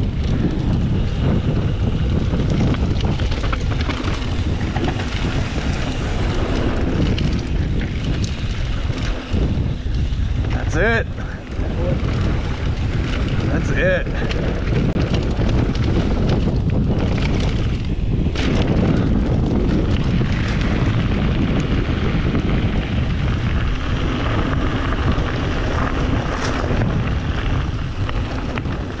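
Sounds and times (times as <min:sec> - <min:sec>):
bike tyres rumbling on gravel: 0:00.0 - 0:29.0
wind buffeting microphone: 0:00.0 - 0:29.0.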